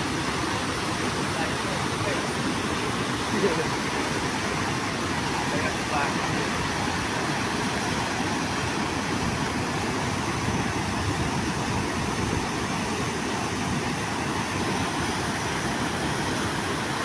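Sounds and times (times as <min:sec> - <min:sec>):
floodwater rushing through dam gates: 0:00.0 - 0:17.0.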